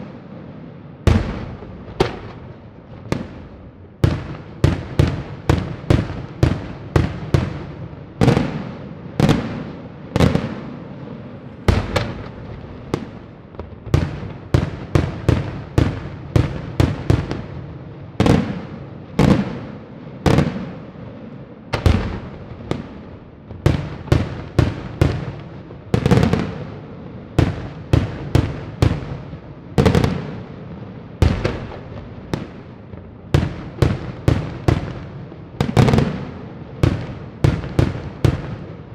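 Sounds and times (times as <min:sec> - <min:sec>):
fireworks bursts with echo: 0:00.0 - 0:38.9.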